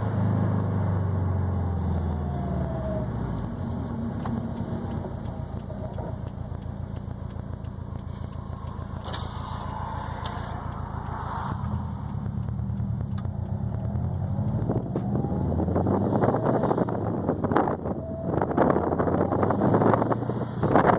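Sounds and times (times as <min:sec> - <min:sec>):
car engine cruising: 0:00.0 - 0:20.9.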